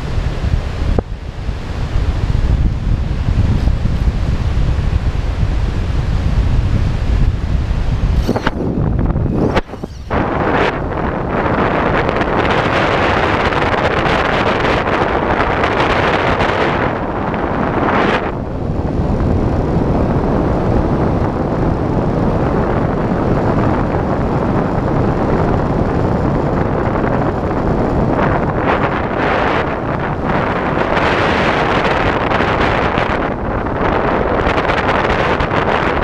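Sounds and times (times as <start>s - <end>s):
wind noise on microphone: 0.0s - 36.0s.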